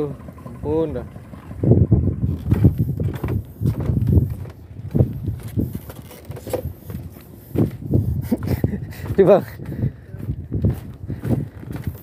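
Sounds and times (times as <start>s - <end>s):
footsteps on bamboo planks: 2.3s - 12.0s.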